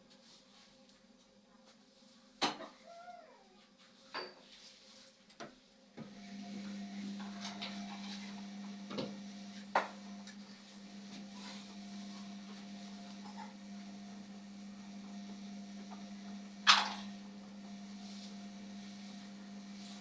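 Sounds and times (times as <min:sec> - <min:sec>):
washing machine electric hum: 0:00.0 - 0:20.0.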